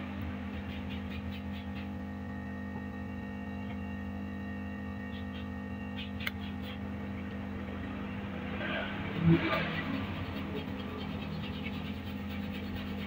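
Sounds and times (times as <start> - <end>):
hot air blower hum: 0.0 - 13.0.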